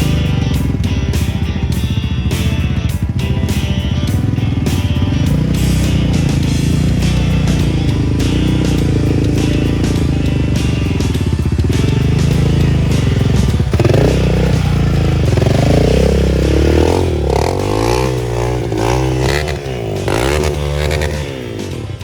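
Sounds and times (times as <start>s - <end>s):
small motorbike engine revving: 0.0s - 22.0s.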